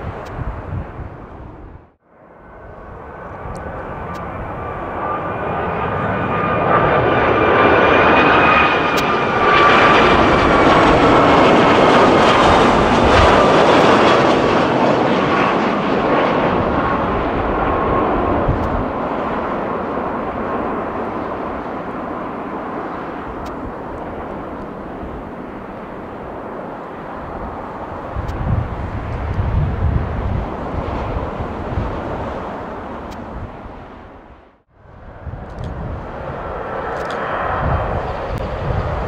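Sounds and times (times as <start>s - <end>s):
jet airliner engines whining: 0.0s - 39.0s.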